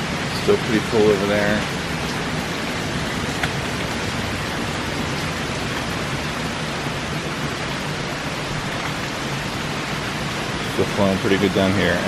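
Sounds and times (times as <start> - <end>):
heavy rain: 0.0 - 12.0
water flowing through drainage channel: 0.0 - 12.0.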